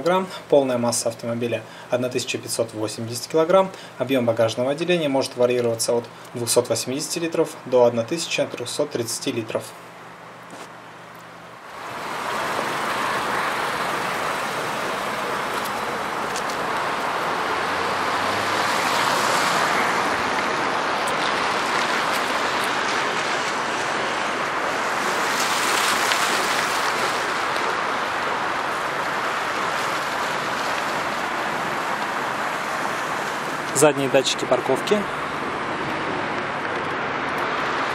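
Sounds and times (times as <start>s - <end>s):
road traffic hiss: 0.0s - 37.9s.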